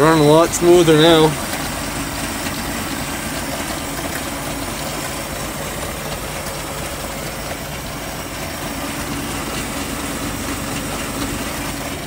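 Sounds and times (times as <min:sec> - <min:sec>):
marine engine idling: 0:00.0 - 0:12.0.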